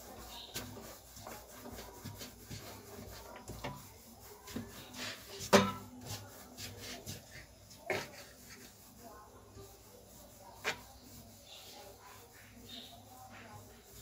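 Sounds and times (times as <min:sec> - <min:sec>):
hands rolling dough: 0:00.0 - 0:14.0.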